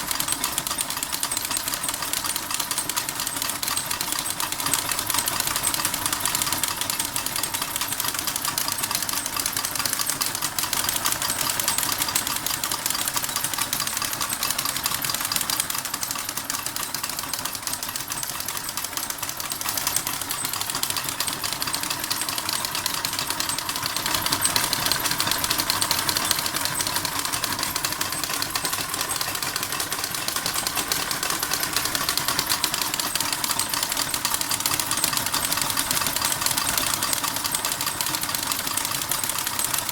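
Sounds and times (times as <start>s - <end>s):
model steam engine clattering: 0.0s - 39.9s.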